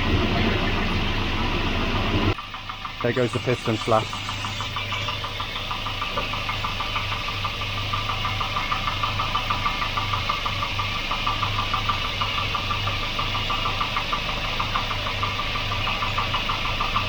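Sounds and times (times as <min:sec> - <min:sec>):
car engine idling: 0:00.1 - 0:17.0
rhythmic engine ticking: 0:02.3 - 0:17.0.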